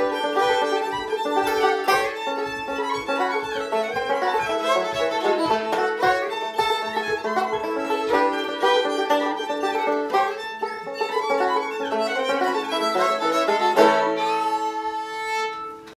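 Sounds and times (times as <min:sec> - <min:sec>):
banjo playing: 0:00.0 - 0:16.0
fiddle playing: 0:00.0 - 0:16.0.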